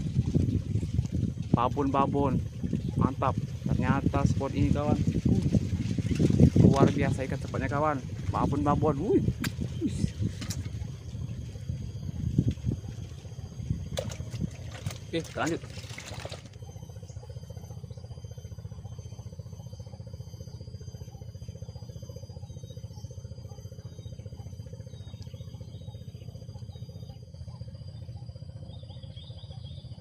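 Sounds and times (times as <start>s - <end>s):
small motor droning: 0.0s - 30.0s.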